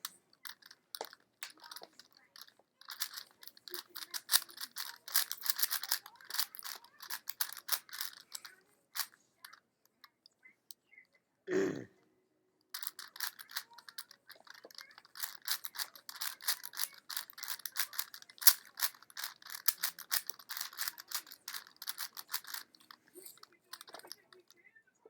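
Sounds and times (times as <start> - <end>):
puzzle cube clicking as turned: 0.0 - 9.2, 12.8 - 24.4.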